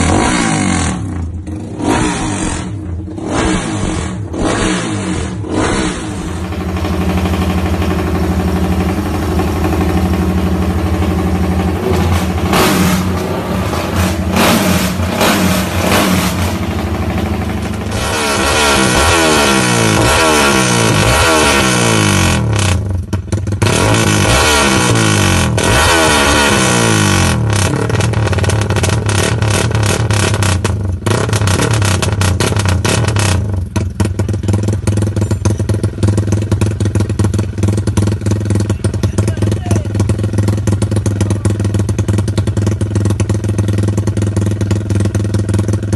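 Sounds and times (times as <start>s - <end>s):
motorcycle engine idling and revving: 0.0s - 45.9s.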